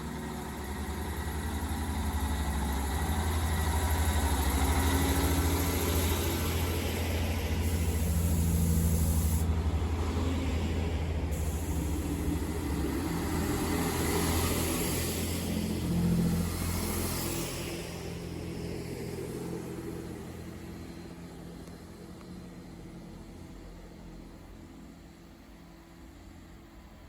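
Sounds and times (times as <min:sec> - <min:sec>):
diesel train engine running: 0:00.0 - 0:27.0.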